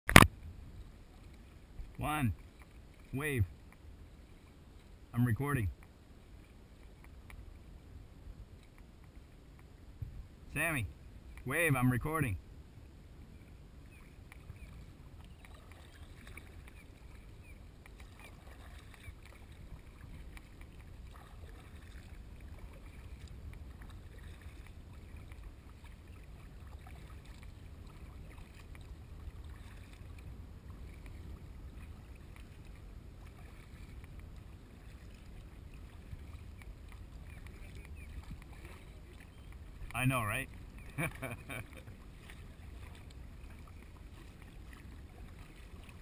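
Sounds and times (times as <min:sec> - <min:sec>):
paddle drips and splashes: 0:00.1 - 0:12.2, 0:13.0 - 0:46.0
water lapping against kayak hull: 0:00.1 - 0:46.0.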